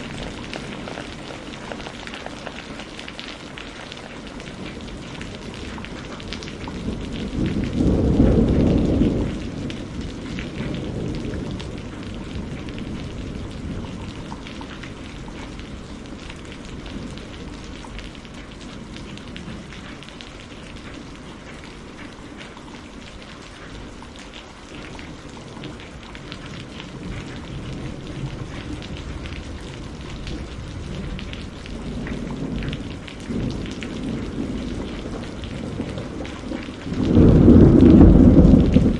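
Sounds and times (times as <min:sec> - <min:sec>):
thunder rumbling: 0:00.0 - 0:02.0, 0:04.6 - 0:22.2, 0:24.8 - 0:38.9
steady rain falling: 0:00.0 - 0:38.9.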